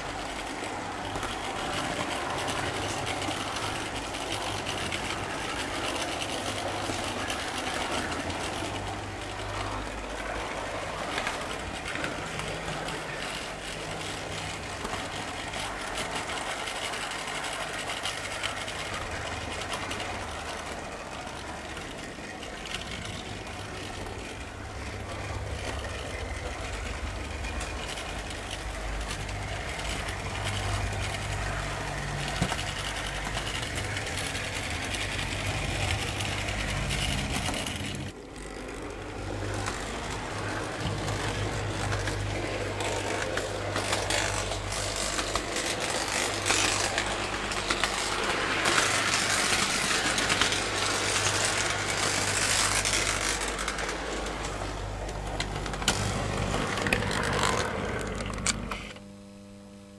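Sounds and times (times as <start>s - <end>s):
model train motor whirring: 0.0s - 59.2s.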